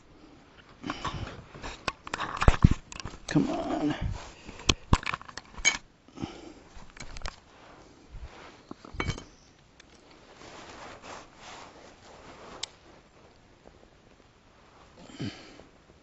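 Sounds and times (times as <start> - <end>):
cloth rustling: 0.0 - 5.8, 6.6 - 16.0.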